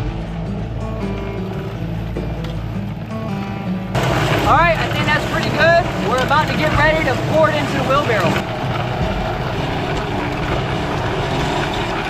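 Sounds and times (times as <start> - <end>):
background music: 0.0 - 12.0
concrete mixer running: 0.0 - 12.0.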